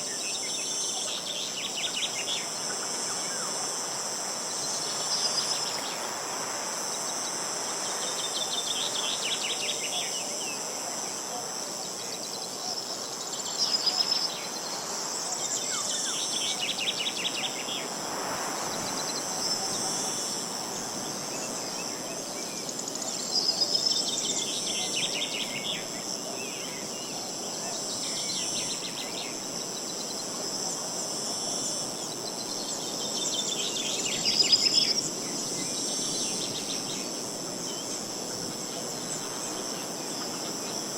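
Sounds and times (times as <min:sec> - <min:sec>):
insect chorus: 0:00.0 - 0:40.9.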